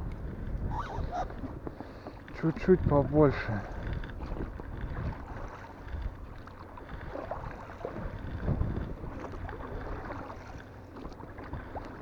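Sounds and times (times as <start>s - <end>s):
wind buffeting microphone: 0.0s - 10.1s
water lapping against boat: 0.0s - 12.0s.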